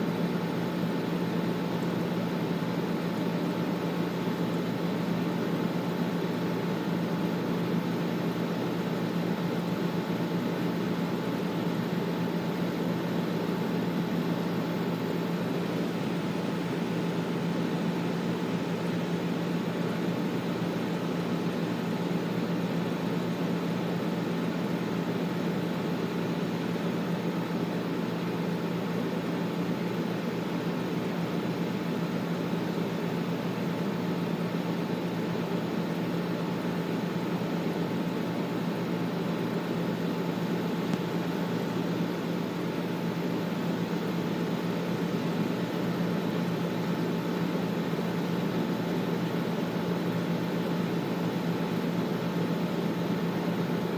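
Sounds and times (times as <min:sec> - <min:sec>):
air conditioner fan rush: 0:00.0 - 0:53.9.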